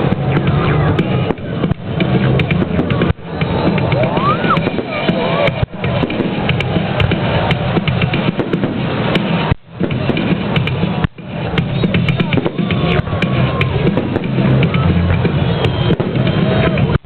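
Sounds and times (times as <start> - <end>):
fireworks bangs and crackles: 0.0 - 17.0
music with heavy drum beat: 0.0 - 17.0
rising firework whistle: 2.6 - 17.0.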